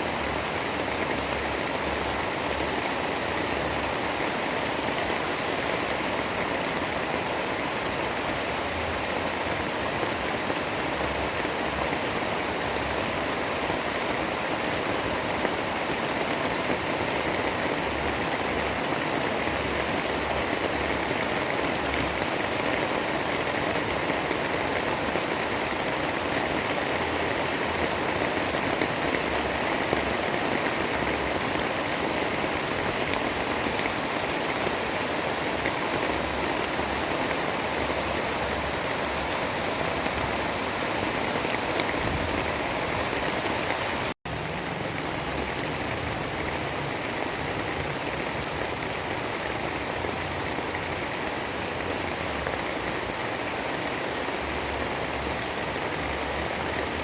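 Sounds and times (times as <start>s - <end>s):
rain-like white noise: 0.0s - 57.0s.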